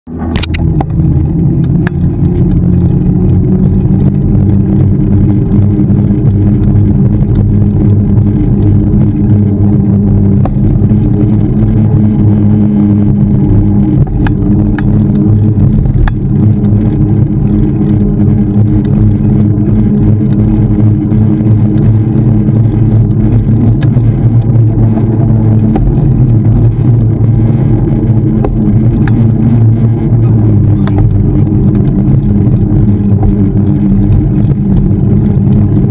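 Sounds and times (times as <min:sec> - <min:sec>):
road rumble: 0:00.0 - 0:35.9.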